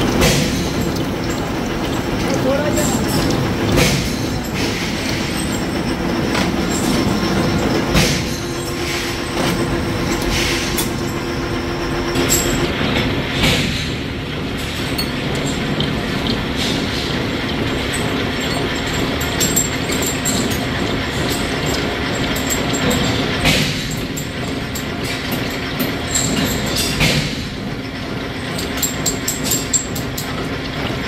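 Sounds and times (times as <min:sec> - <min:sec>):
gear cutting machine running: 0:00.0 - 0:31.0.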